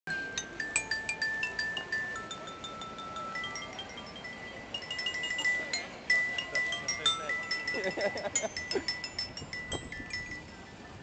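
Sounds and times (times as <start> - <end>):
zither-like string instrument tune: 0.1 - 10.9.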